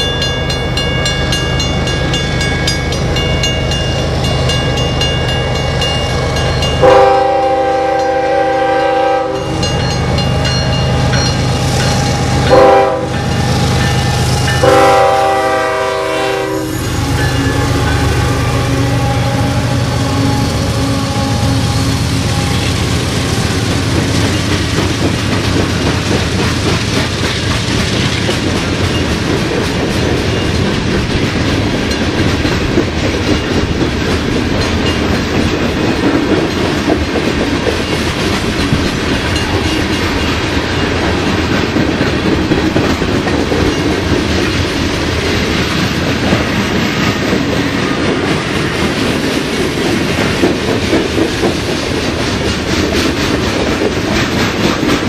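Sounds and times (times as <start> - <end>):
locomotive engine drone: 0.0 - 55.0
train wheels clacking on rails: 0.0 - 55.0.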